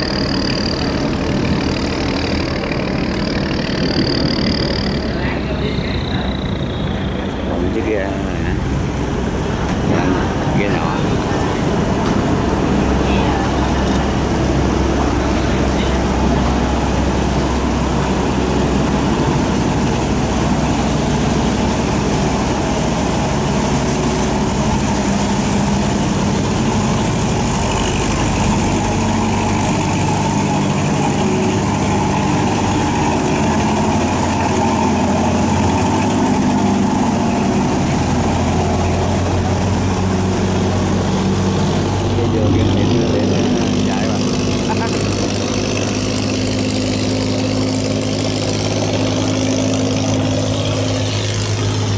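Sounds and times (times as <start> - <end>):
barge engine running: 0.0 - 51.9
water churning along hull: 0.0 - 51.9.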